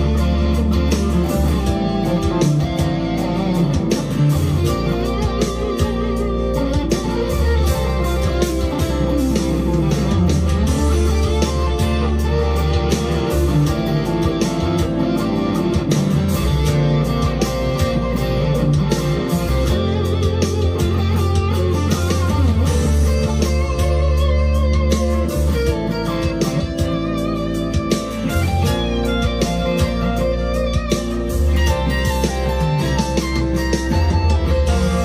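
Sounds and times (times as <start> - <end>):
electric guitar through amplifier: 0.0 - 35.0.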